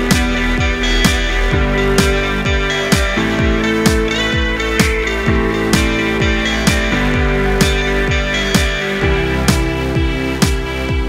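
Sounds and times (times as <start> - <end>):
drum beat: 0.0 - 11.0.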